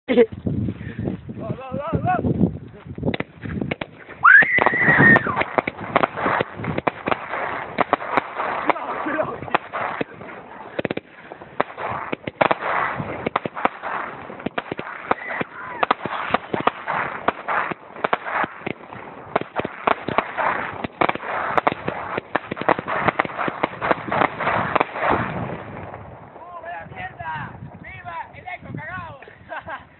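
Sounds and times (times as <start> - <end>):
fireworks cracking and popping: 1.8 - 29.8.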